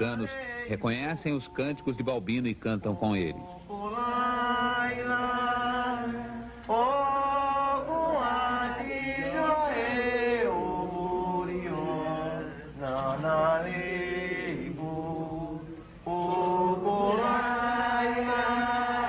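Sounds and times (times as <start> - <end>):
voices chanting together: 3.0 - 19.0.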